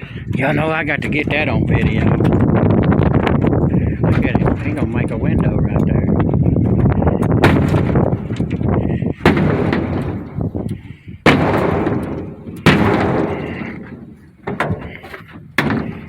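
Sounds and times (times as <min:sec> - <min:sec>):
heavy blows on wooden wall: 0:00.0 - 0:16.0
trailing rattle: 0:00.0 - 0:16.0.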